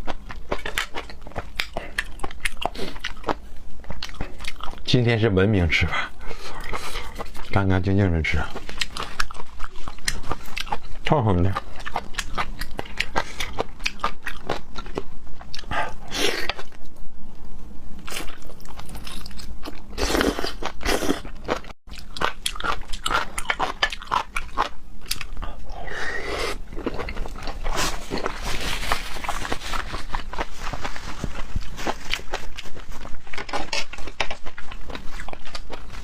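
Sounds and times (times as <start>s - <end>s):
wet chewing and crunching: 0.0s - 5.3s, 6.0s - 16.9s, 18.0s - 36.0s.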